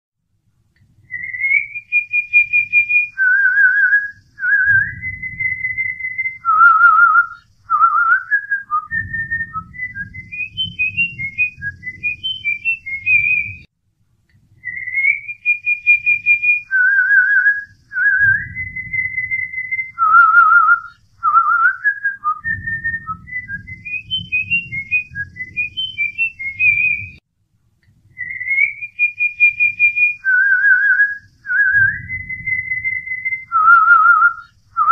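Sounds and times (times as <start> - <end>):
whistled melody: 1.0 - 13.7, 14.6 - 27.2, 28.1 - 34.9.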